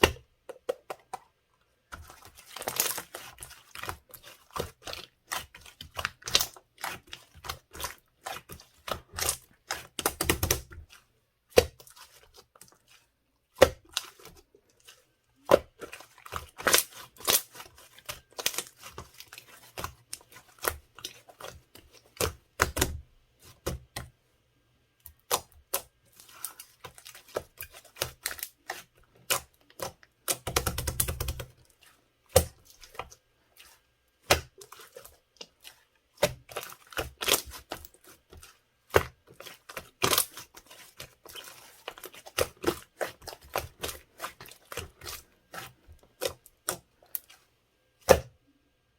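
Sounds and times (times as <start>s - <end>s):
slime squishing: 0.0s - 24.2s, 25.0s - 48.6s.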